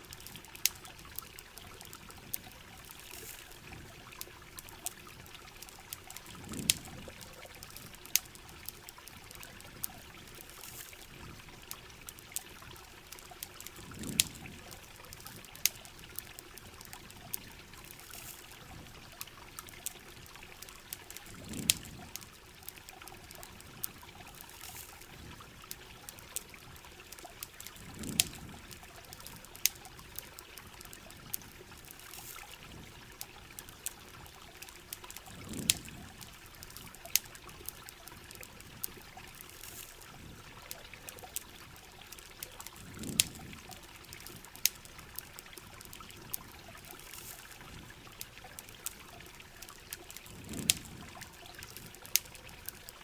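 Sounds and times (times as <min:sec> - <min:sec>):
fire crackling and popping: 0:00.0 - 0:53.0
steady rain: 0:00.0 - 0:53.0
trickling water: 0:00.0 - 0:53.0.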